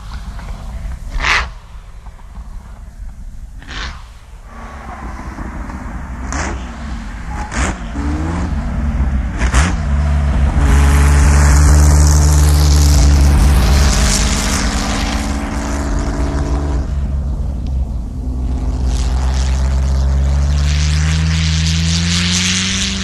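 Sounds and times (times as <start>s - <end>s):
engine revving: 3.6s - 23.0s.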